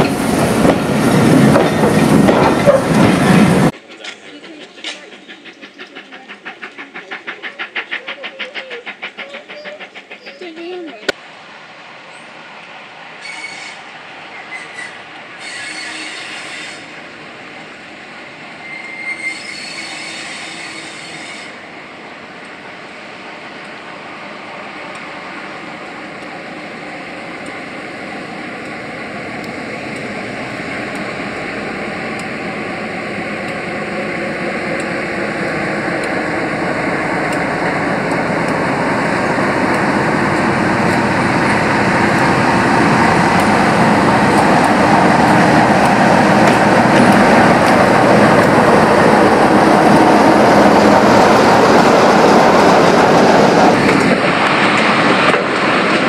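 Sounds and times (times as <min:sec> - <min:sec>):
diesel locomotive passing: 0:00.0 - 0:56.0.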